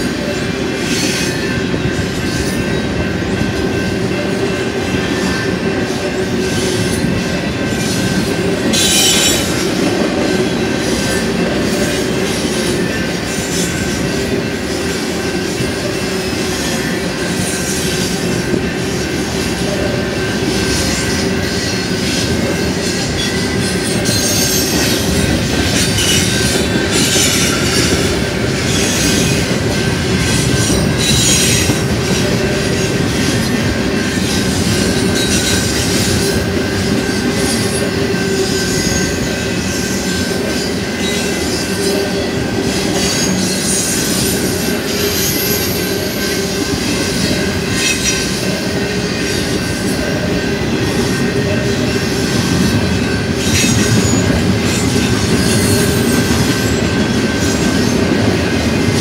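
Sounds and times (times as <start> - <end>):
freight train wheels rumbling: 0.0 - 59.0
high wheel squeal: 4.9 - 59.0.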